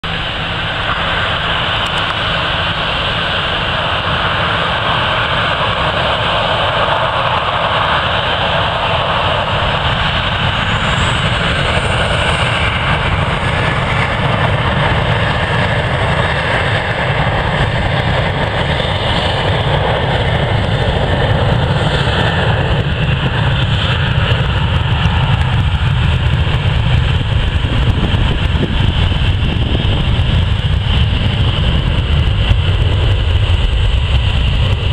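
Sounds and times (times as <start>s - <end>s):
jet engines roaring: 0.0s - 34.9s.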